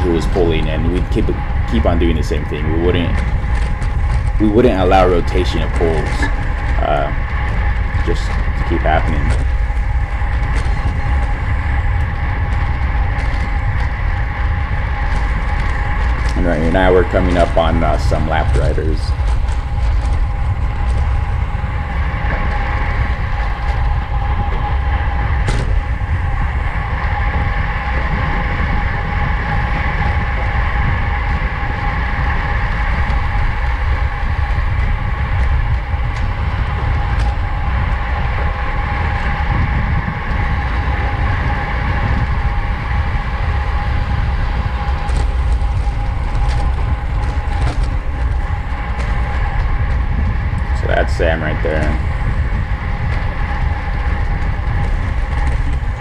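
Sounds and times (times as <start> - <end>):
bicycle tyre and drivetrain noise: 0.0 - 56.0
steady whine: 0.0 - 56.0
wind rushing over microphone: 0.0 - 56.0.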